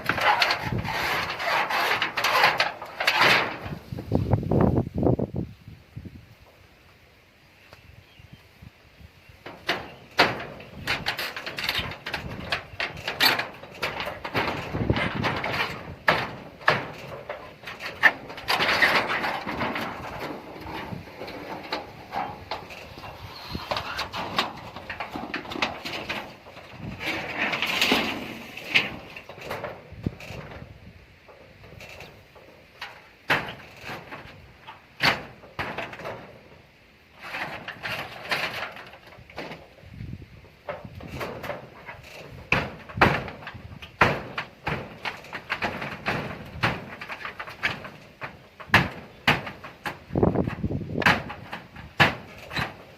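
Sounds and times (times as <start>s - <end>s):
knocks and clatter: 0.0s - 3.9s, 9.4s - 36.6s, 37.2s - 39.8s, 40.6s - 52.9s
scraping: 0.0s - 4.4s, 9.4s - 39.8s, 40.4s - 52.9s
rustling noise: 0.0s - 6.6s, 8.4s - 52.9s.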